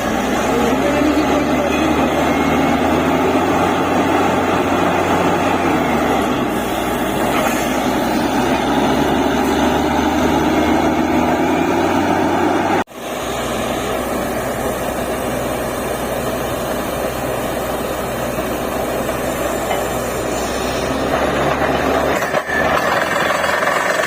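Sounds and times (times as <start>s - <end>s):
drilling machine engine drone: 0.0s - 24.0s.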